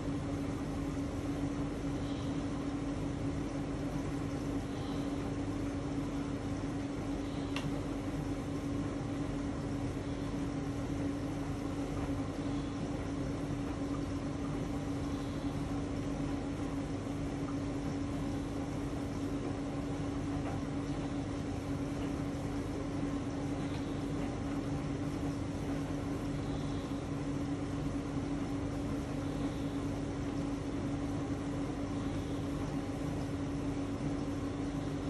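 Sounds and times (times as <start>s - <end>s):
motor hum: 0.0s - 35.0s.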